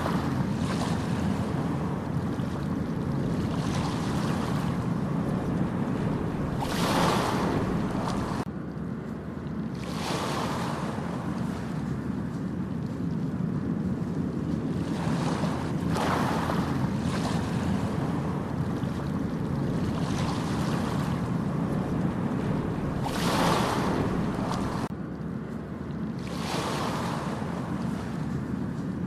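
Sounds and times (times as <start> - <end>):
ocean waves breaking on beach: 0.0 - 8.5, 9.7 - 12.4, 13.0 - 24.9, 26.0 - 29.0
wind rumble on microphone: 0.0 - 29.0.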